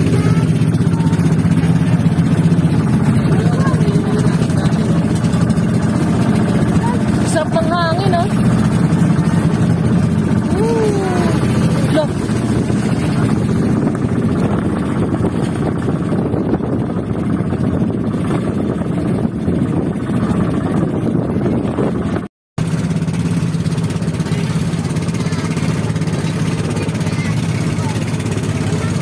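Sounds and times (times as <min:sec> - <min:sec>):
boat engine drone: 0:00.0 - 0:29.0
wind and water rushing: 0:00.0 - 0:29.0.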